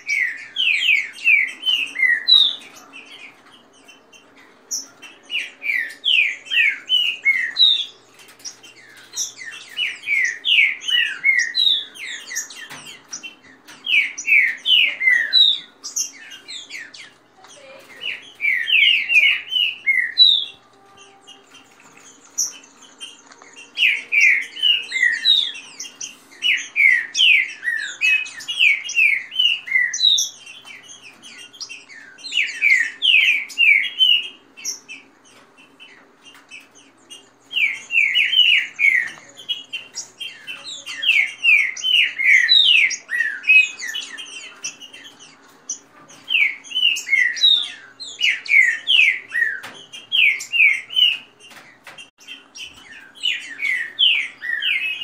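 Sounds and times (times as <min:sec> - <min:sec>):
birds singing whistled notes: 0:00.0 - 0:55.0
high bird chirps: 0:00.0 - 0:55.0.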